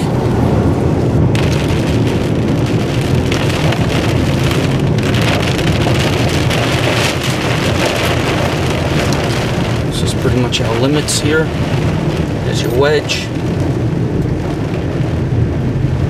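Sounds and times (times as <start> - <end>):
heavy rain pelting a car: 0.0 - 16.0
road and engine rumble: 0.0 - 16.0.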